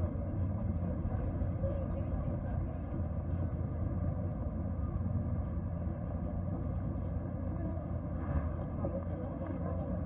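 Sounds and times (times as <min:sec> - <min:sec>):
faint crowd voices: 0:00.0 - 0:10.0
street noise rumble: 0:00.0 - 0:10.0.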